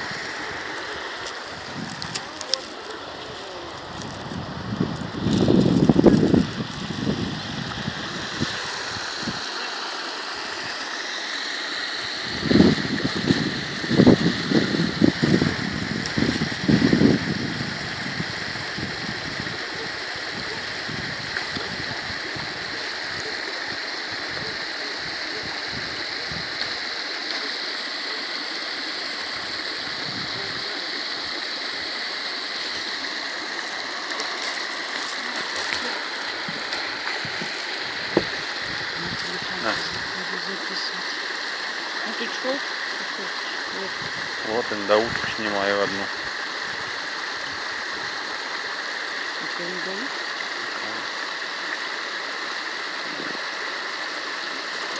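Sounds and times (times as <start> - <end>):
stream splashing into pond: 0.0 - 54.9.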